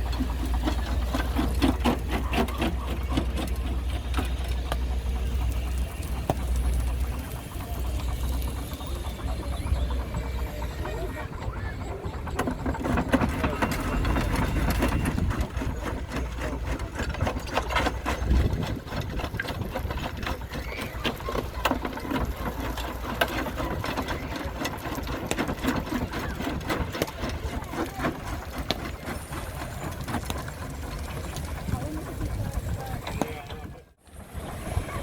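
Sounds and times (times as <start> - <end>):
stone crusher clattering: 0.0 - 4.9, 8.7 - 33.5
low engine rumble: 0.0 - 35.0.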